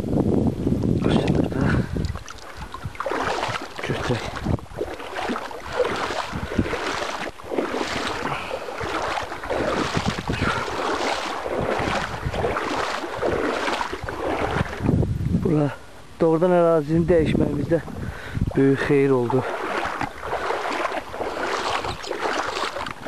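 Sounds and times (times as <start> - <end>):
legs wading through shallow water: 0.8 - 16.0, 16.9 - 23.0.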